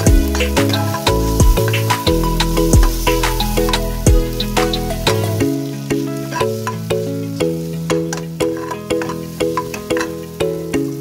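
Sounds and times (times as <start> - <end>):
plucked melody over chords: 0.0 - 11.0.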